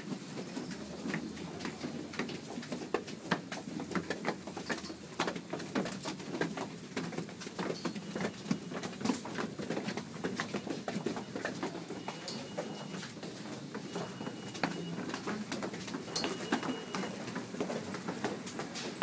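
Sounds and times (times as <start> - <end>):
crowd footsteps on stairs: 0.0 - 19.0.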